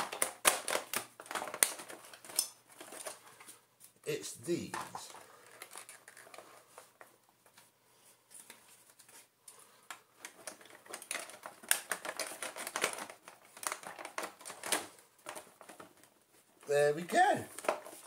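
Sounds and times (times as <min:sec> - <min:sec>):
plastic parts clicking and rattling: 0:00.0 - 0:03.6, 0:04.7 - 0:07.6, 0:08.3 - 0:16.7, 0:17.5 - 0:18.0.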